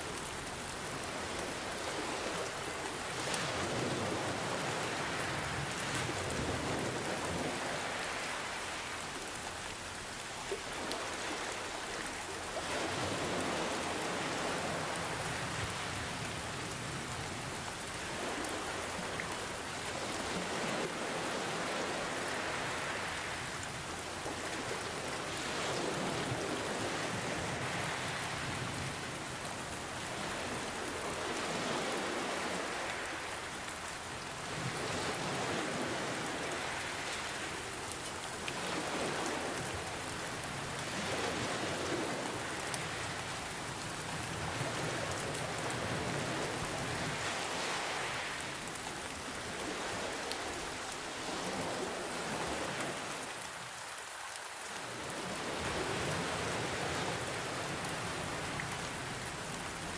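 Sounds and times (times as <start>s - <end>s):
ocean waves: 0.0s - 59.9s
steady rain patter: 0.0s - 59.9s.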